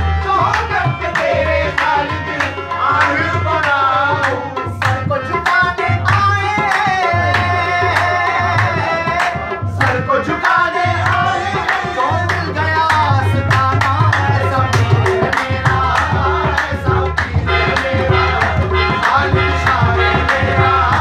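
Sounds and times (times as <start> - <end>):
harmonium: 0.0 - 21.0
man singing: 0.0 - 21.0.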